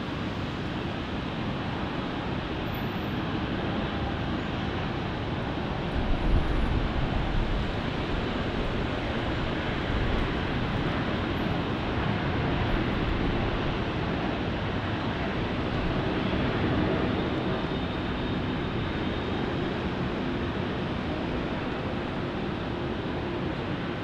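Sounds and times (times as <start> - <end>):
jet engines rushing: 0.1 - 24.0.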